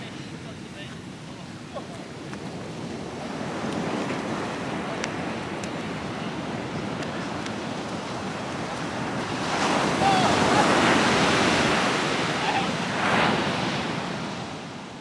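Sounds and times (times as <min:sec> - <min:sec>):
ocean surf breaking on beach: 0:00.0 - 0:15.0
wind on microphone: 0:00.0 - 0:15.0.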